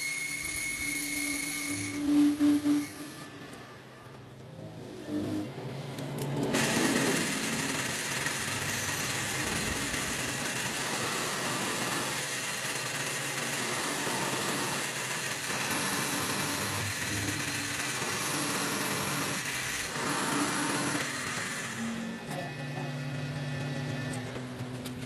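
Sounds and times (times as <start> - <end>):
workshop tool running: 0.0 - 25.0.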